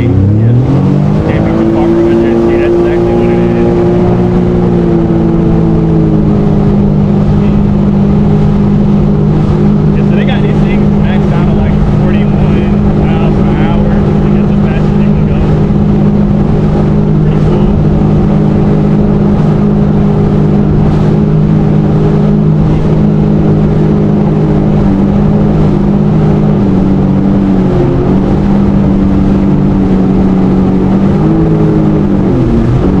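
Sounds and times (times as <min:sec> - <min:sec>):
jet ski engine running: 0:00.0 - 0:33.0.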